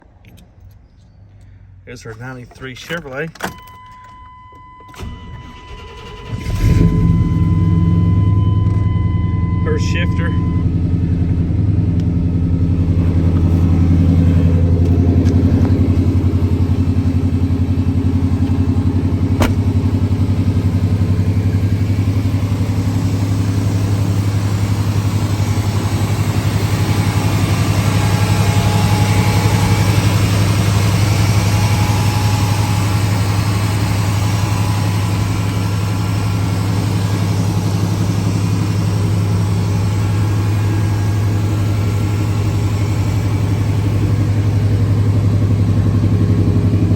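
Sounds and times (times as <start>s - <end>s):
pickup engine idling: 5.0s - 46.9s.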